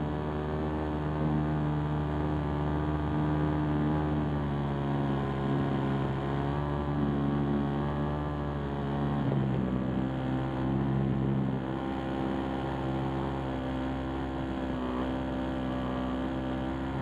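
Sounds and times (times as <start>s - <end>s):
model aircraft propeller humming: 0.0s - 17.0s.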